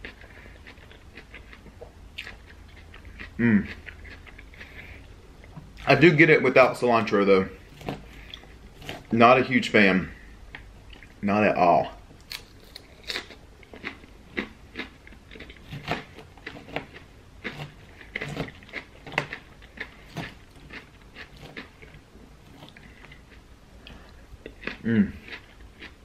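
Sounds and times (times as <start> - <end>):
chewing crunchy salad: 0.0 - 6.1, 7.0 - 9.2, 12.2 - 26.0.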